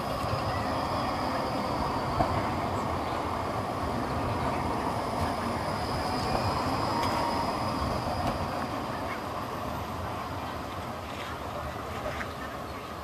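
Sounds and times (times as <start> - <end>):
tram rail rumble: 0.0 - 13.0.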